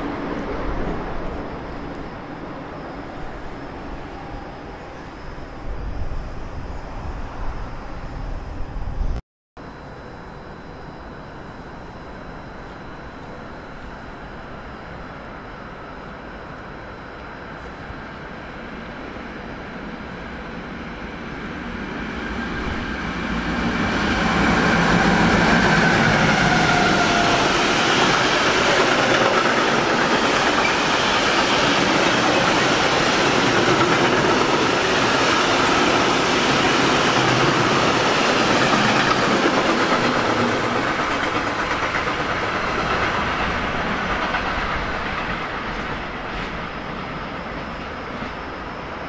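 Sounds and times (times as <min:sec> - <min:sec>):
train passing: 0:00.0 - 0:09.2, 0:09.8 - 0:49.0.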